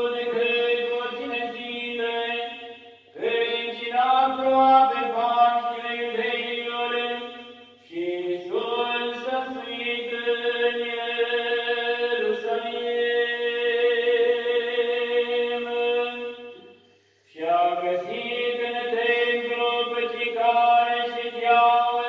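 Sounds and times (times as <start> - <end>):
person chanting liturgically: 0.0 - 22.0.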